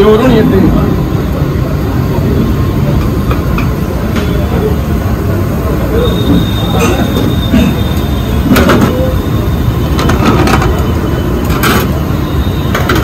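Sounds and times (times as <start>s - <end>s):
busy kitchen rumble: 0.0s - 13.0s.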